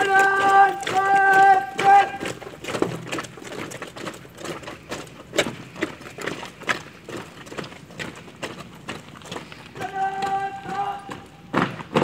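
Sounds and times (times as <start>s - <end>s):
marching boots striking ground: 0.0s - 12.0s.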